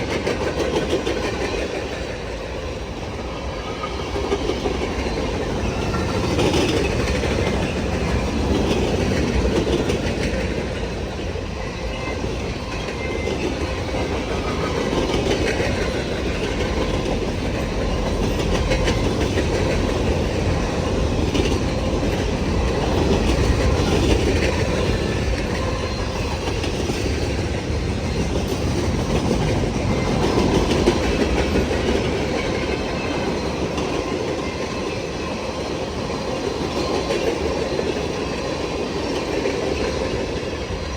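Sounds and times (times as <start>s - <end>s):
freight train wheels clacking: 0.0s - 40.9s.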